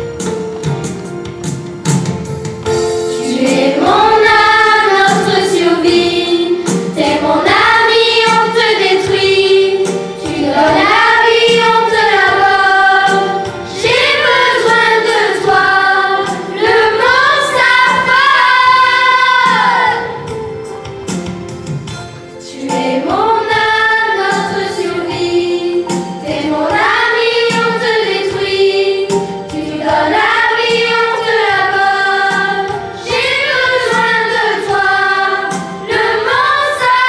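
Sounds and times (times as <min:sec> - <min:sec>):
instrumental backing music: 0:00.0 - 0:37.0
children singing: 0:03.2 - 0:20.3, 0:22.4 - 0:37.0.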